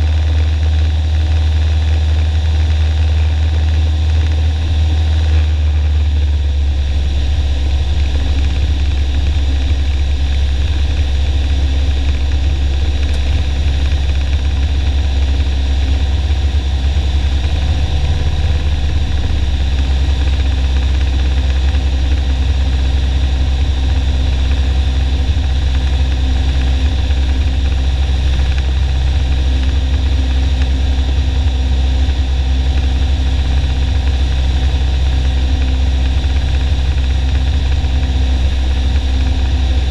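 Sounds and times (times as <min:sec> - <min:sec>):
airplane engine droning in cabin: 0:00.0 - 0:39.9.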